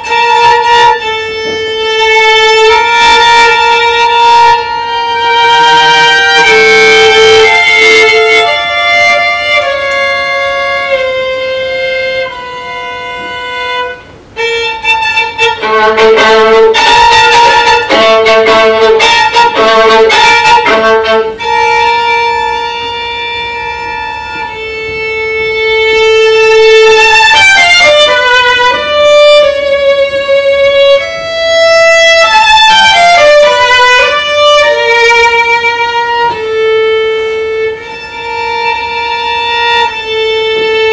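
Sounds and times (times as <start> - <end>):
solo violin melody: 0.0 - 40.9.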